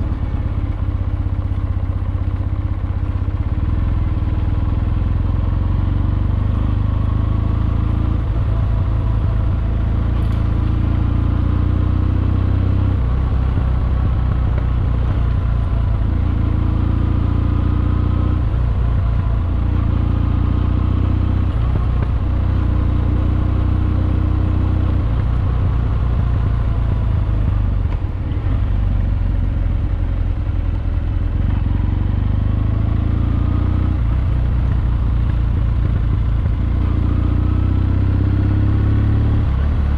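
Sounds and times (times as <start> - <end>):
motorcycle engine revving: 3.1 - 39.9.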